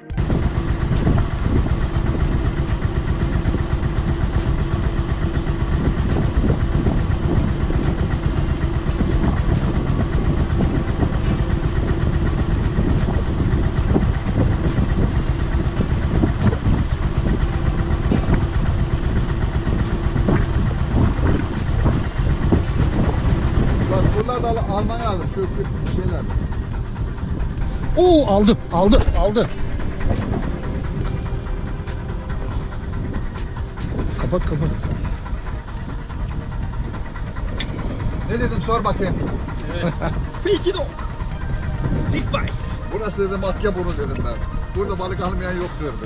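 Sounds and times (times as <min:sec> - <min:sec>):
boat engine running: 0:00.0 - 0:46.0.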